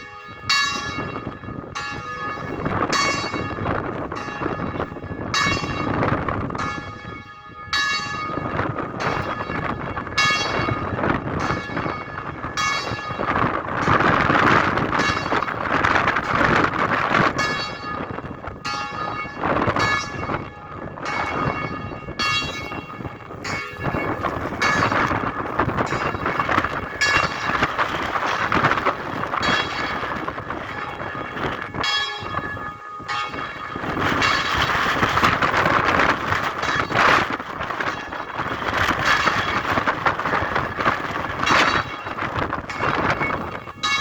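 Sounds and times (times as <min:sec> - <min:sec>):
bells ringing: 0:00.0 - 0:44.0.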